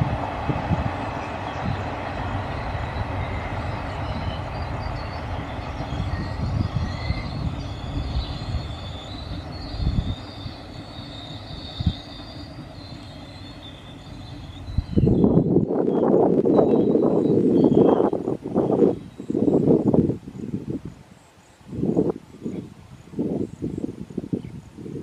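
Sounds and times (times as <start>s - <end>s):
high wavering whine: 0.0s - 24.4s
train wheels rumbling on track: 0.0s - 25.0s.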